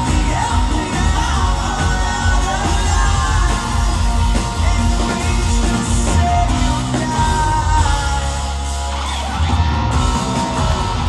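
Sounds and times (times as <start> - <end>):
lead vocal singing: 0.0 - 11.0
live pop-rock band: 0.0 - 11.0.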